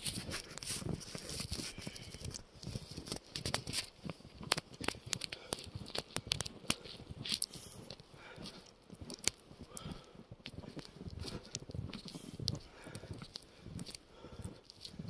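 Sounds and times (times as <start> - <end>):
snow crunching against microphone: 0.0 - 15.0.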